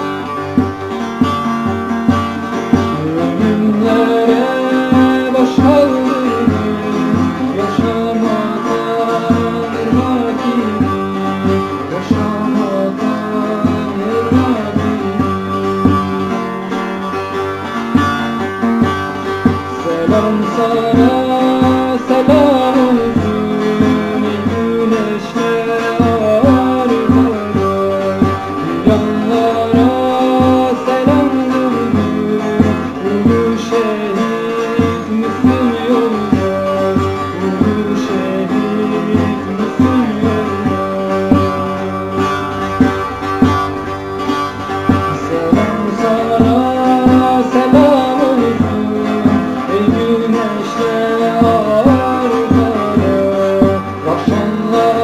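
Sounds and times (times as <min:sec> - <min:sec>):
person singing: 0:00.0 - 0:43.6, 0:44.2 - 0:55.0
plucked string instruments: 0:00.0 - 0:55.0.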